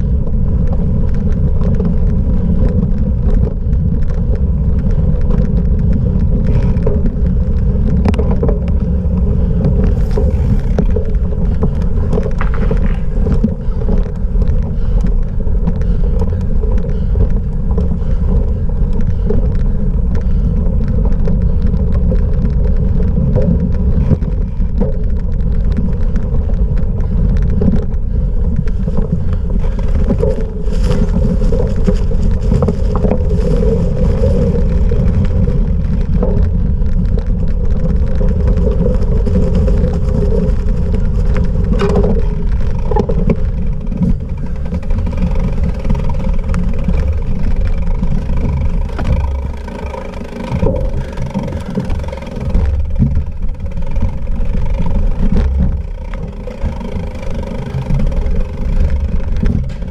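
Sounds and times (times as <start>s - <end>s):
bike tyre and frame noise: 0.0s - 59.9s
wind buffeting microphone: 0.0s - 59.9s.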